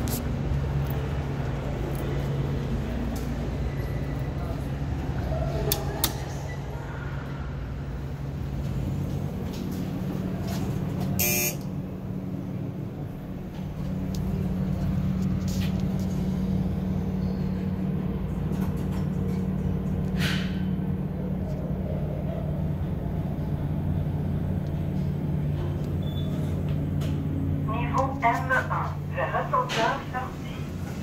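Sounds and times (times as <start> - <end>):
low machinery hum: 0.0 - 31.0.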